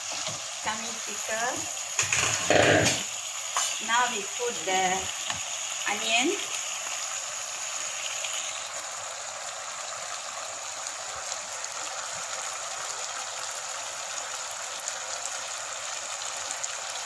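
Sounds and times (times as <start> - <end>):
chicken sizzling in sauce: 0.0 - 17.0.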